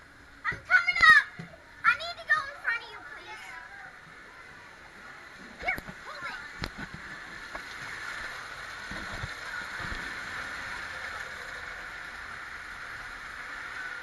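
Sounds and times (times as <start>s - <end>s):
water rushing through slide tube: 1.9s - 14.0s.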